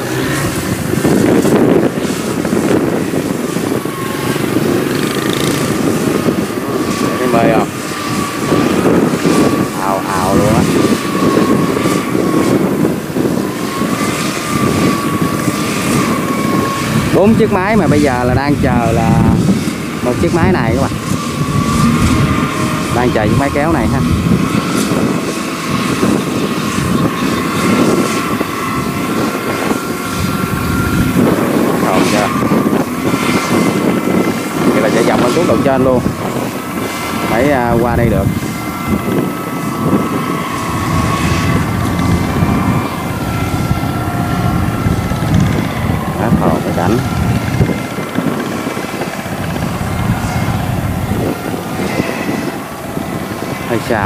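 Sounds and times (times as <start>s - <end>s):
high whine: 0.0s - 54.0s
machinery engine droning: 0.0s - 54.0s.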